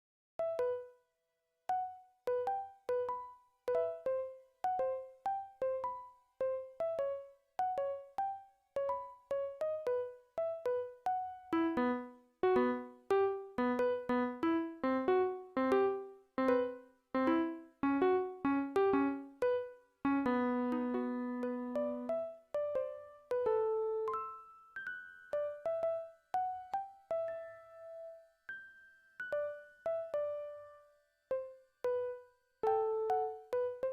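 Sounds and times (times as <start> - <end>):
keyboard melody: 0.4 - 1.1, 1.7 - 33.9
held keyboard chord: 1.7 - 24.4, 29.3 - 33.9.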